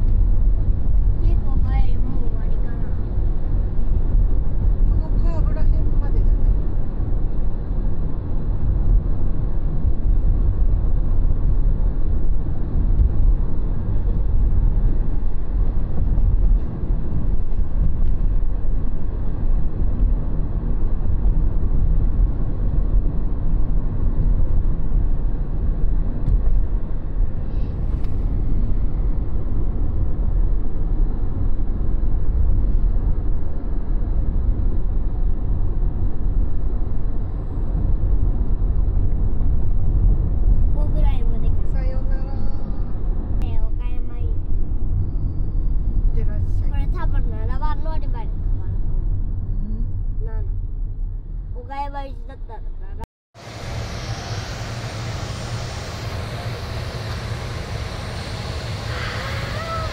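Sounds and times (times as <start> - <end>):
train rumbling inside carriage: 0.0 - 59.9.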